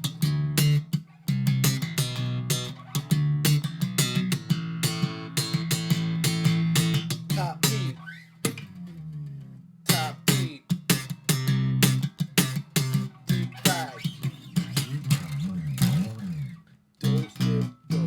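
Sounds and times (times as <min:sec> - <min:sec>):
plucked guitar with bass: 0:00.0 - 0:18.0.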